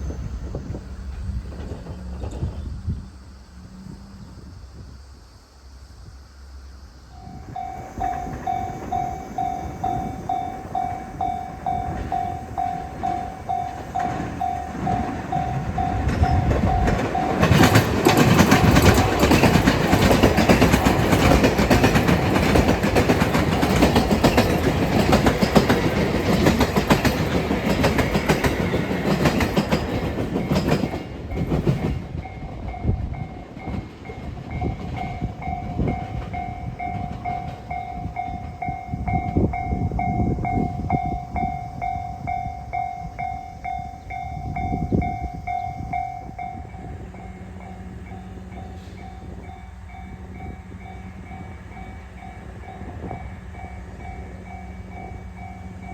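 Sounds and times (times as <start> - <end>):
train wheels on rails: 0.0 - 4.5, 7.0 - 55.9
level crossing warning bell: 7.2 - 28.7, 29.5 - 55.9.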